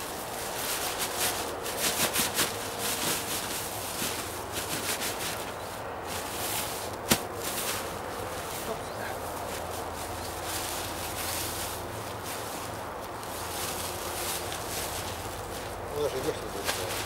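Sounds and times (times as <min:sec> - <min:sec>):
plastic bin bag rustling: 0:00.0 - 0:17.0.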